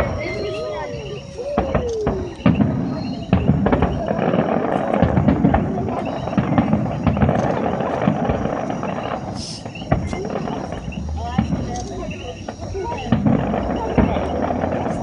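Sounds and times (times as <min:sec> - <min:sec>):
crackling firework pops: 0:00.0 - 0:15.0
firework bangs: 0:00.0 - 0:15.0
firework falling whistle: 0:00.0 - 0:15.0.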